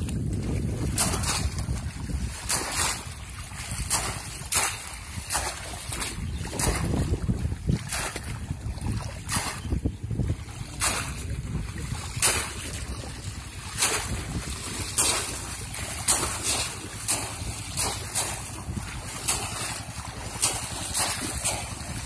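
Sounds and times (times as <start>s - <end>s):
fish traps splashing in water: 0.0s - 22.0s
legs wading through water: 0.0s - 22.0s
wind rumble on microphone: 0.0s - 22.0s.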